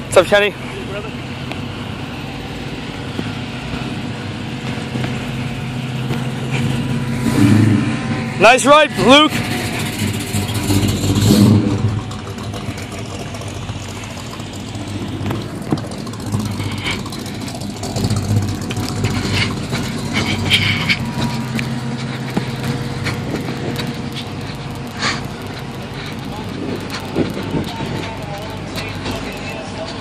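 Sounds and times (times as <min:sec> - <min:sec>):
car engines driving past: 0:00.0 - 0:30.0.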